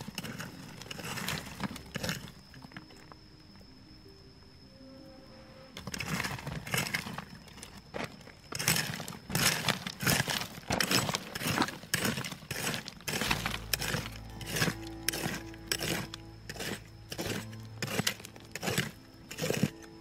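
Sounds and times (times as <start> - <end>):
hoe chopping stony soil: 0.0 - 2.8, 5.8 - 20.0
stones rattling: 0.0 - 3.2, 5.8 - 20.0.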